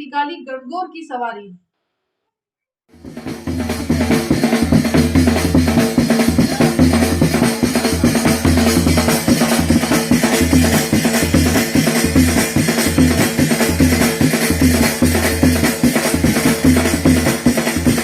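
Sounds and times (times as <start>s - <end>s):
music with heavy drum beat: 2.9s - 18.0s.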